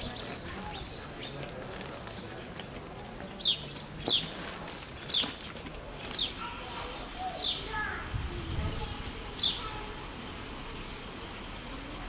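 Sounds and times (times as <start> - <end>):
murmur of street sound: 0.0 - 12.0.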